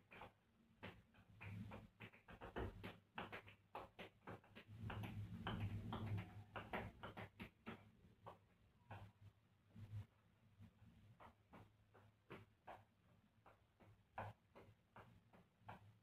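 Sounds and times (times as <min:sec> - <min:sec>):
tap shoes on hard floor: 0:00.0 - 0:10.1, 0:10.9 - 0:16.0.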